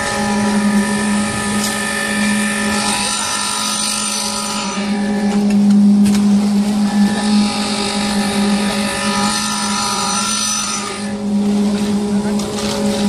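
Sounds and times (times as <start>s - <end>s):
concrete pump machine drone: 0.0s - 13.0s.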